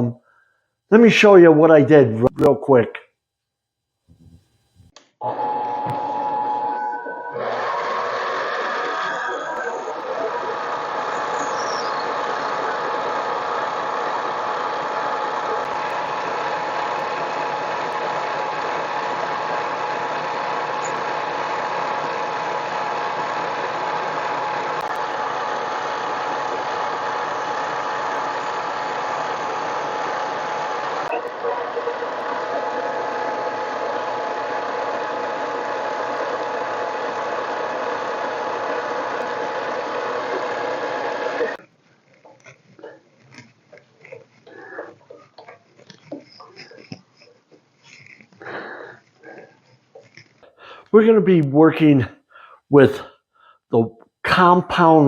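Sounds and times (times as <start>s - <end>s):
lathe motor whining: 4.1s - 50.2s.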